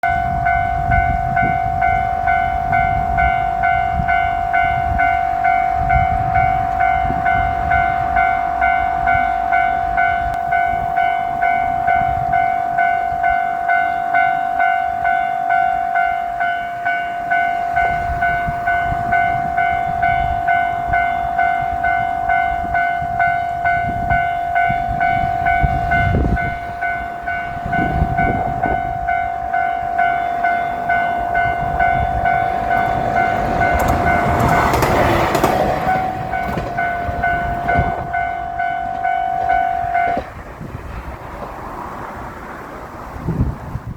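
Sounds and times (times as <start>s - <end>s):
railcar rumbling past: 0.0s - 43.9s
railroad crossing bell ringing: 0.0s - 43.9s.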